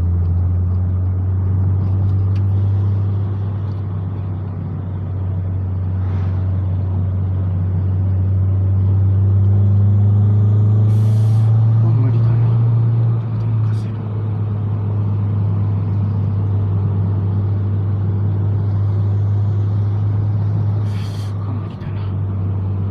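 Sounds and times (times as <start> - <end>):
car engine droning uphill: 0.0 - 22.9
road noise: 0.0 - 22.9.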